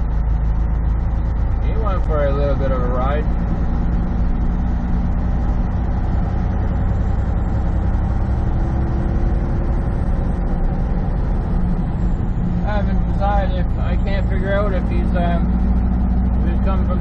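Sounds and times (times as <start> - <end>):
diesel truck engine cruising: 0.0 - 17.0
road noise: 0.0 - 17.0.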